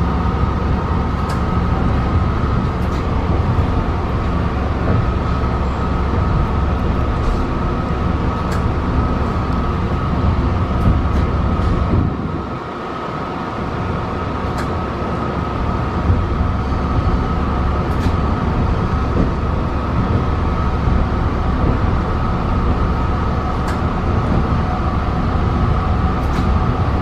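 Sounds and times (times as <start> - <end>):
high electric hum: 0.0 - 27.0
train wheels rumbling on rail: 0.0 - 27.0.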